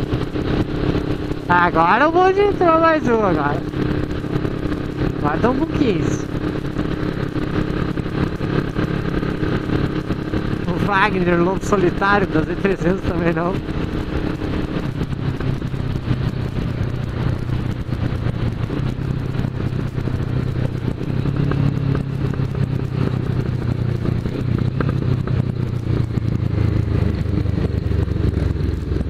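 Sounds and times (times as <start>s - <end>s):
motorcycle engine running: 0.0s - 29.0s
road noise: 0.0s - 29.0s.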